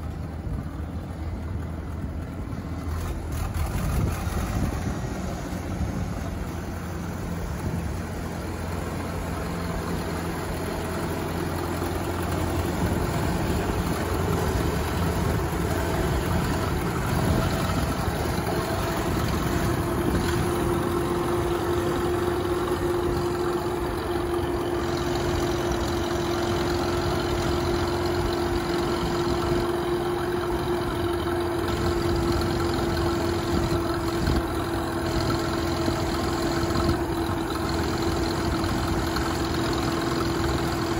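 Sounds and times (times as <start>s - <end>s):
steady whine: 0.0s - 40.9s
tractor engine running: 0.0s - 40.9s.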